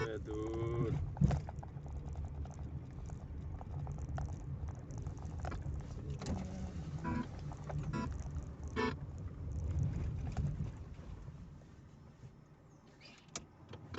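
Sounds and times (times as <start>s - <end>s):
car cabin rumble: 0.0s - 13.9s.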